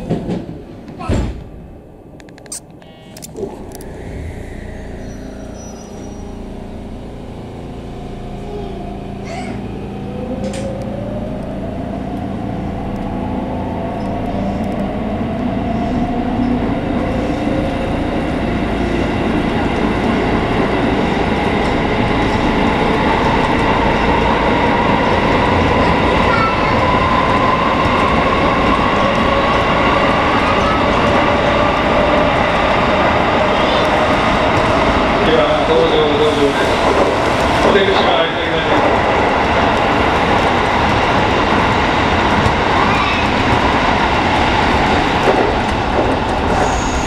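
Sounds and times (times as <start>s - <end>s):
train wheel and running noise: 0.0s - 1.6s, 3.2s - 47.0s
traction motors whining: 2.3s - 47.0s.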